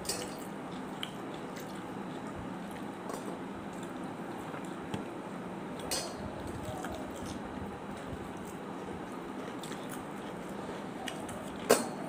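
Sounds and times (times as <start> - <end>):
chewing: 0.1 - 5.0, 5.8 - 12.0.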